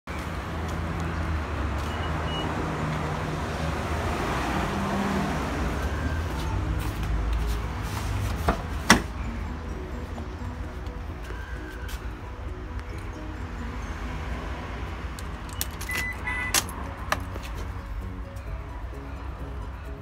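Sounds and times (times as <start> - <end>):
low traffic rumble: 0.1 - 20.0.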